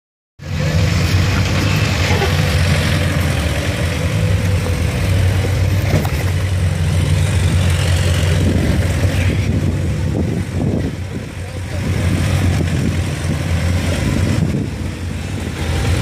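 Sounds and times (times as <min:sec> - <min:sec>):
diesel engine running at low revs: 0:00.4 - 0:16.0.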